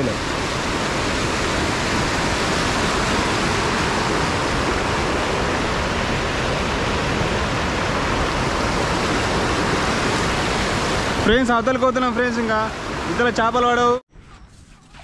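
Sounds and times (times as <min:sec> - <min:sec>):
water rushing over a weir: 0:00.0 - 0:13.6.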